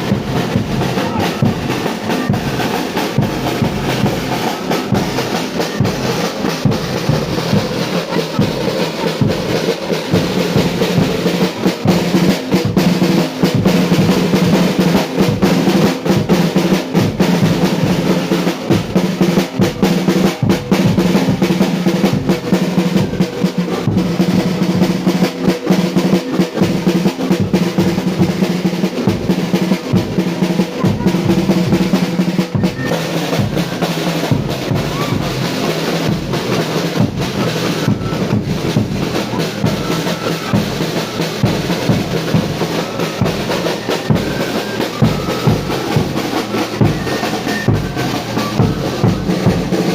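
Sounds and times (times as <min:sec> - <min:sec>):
snare and bass drums: 0:00.0 - 0:49.9.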